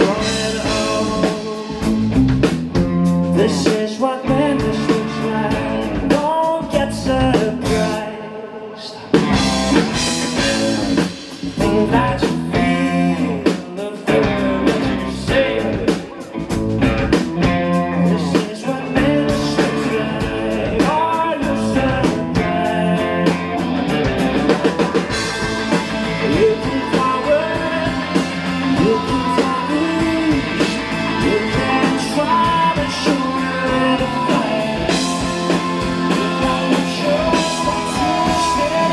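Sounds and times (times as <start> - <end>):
person singing: 0.0 - 2.0, 3.2 - 16.6, 17.4 - 38.9
drum kit: 0.0 - 8.1, 9.0 - 38.9
electric guitar: 0.0 - 38.9.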